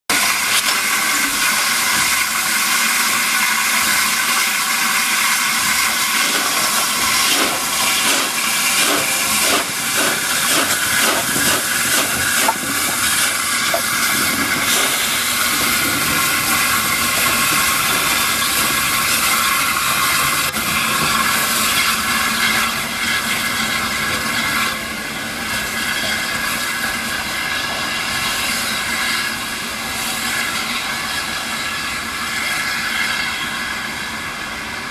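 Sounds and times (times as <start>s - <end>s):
steam hissing: 0.1s - 34.9s
steam locomotive chuffing: 0.1s - 34.9s.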